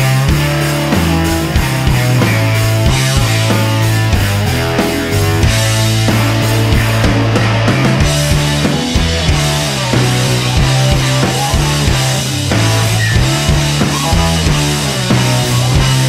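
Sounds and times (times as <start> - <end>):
bass line: 0.0 - 16.0
drum kit beat: 0.0 - 16.0
rock music: 0.0 - 16.0.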